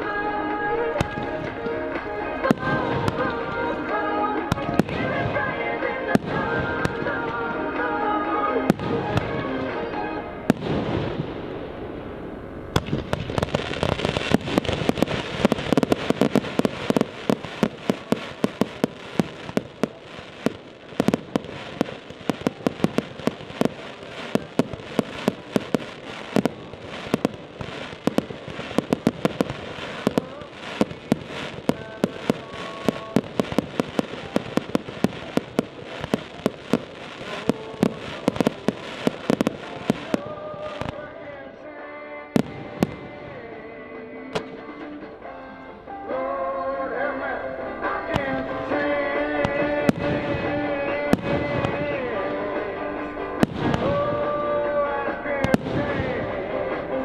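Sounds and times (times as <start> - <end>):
fireworks crackling and popping: 0.0 - 45.2, 47.8 - 57.0
music: 0.0 - 57.0.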